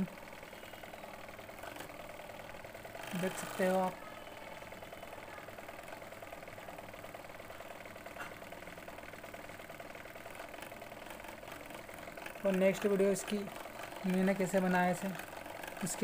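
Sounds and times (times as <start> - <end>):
small generator humming: 0.0 - 16.0.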